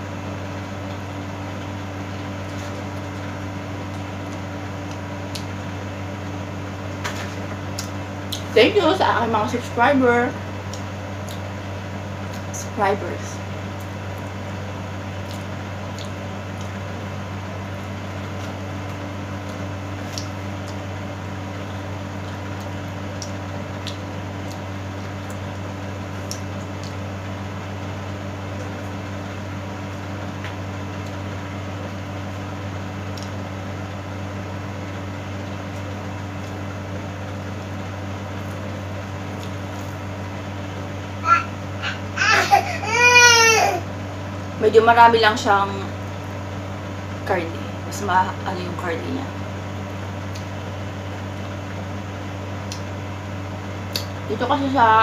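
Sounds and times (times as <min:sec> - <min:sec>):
appliance humming: 0:00.0 - 0:55.0.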